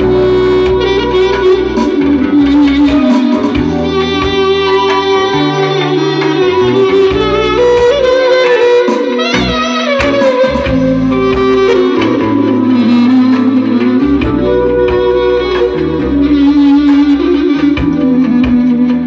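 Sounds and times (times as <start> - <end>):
clarinet melody: 0.0 - 19.0
held bass notes: 0.0 - 19.0.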